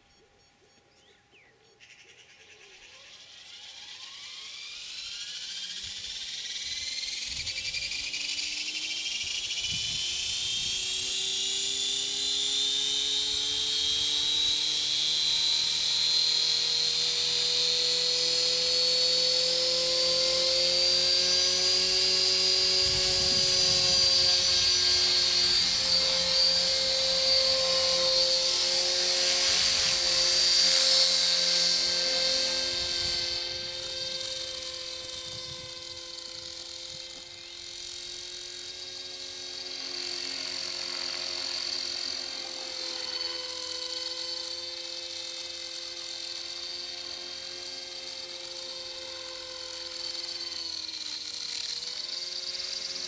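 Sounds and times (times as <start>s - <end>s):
rc helicopter motor whine: 1.0s - 53.0s.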